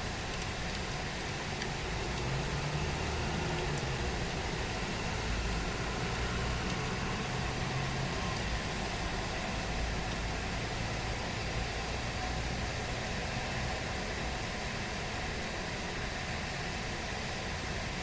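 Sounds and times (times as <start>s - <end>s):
low engine hum: 0.0s - 18.0s
rain hiss: 0.0s - 18.0s.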